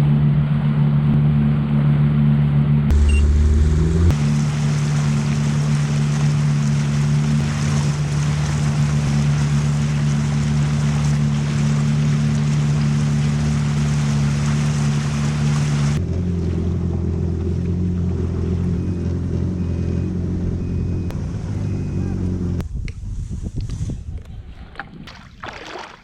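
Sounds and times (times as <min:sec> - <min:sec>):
water rushing along hull: 0:00.0 - 0:22.5, 0:24.5 - 0:26.0
watercraft engine running: 0:00.0 - 0:22.7.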